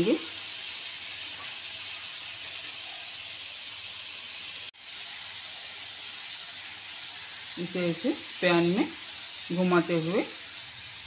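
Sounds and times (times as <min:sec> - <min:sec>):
eggs sizzling in hot oil: 0:00.0 - 0:11.0.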